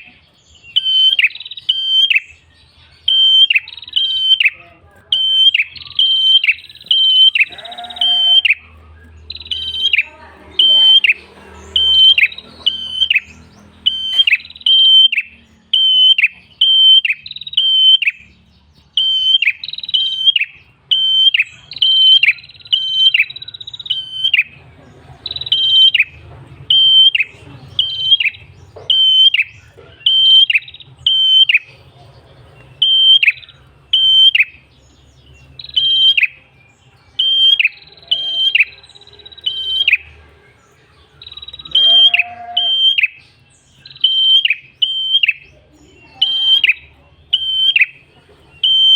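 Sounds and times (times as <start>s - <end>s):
bird sharp high chirps: 0.0s - 24.6s, 25.2s - 48.9s.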